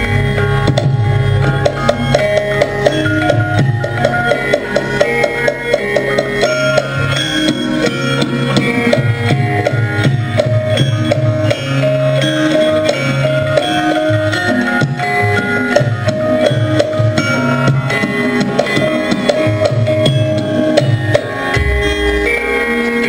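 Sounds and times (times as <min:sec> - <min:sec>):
metallophone melody: 0:00.0 - 0:23.0
hand drum strokes: 0:00.3 - 0:23.0.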